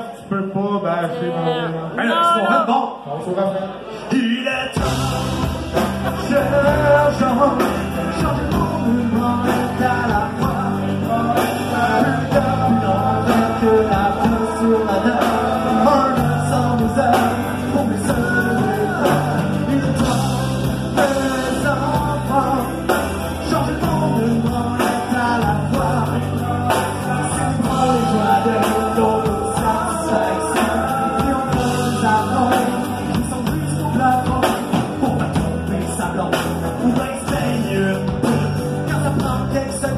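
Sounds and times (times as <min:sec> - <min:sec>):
rock band with singing: 0:00.0 - 0:03.0, 0:03.7 - 0:39.9.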